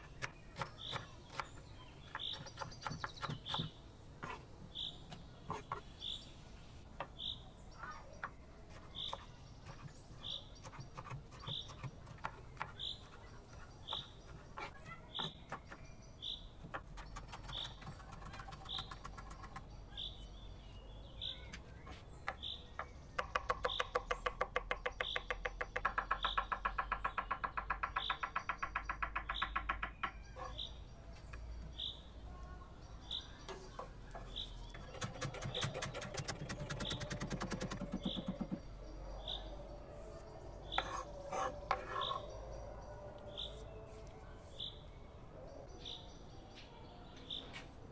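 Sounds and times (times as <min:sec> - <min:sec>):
bird chirping: 0:00.0 - 0:47.9.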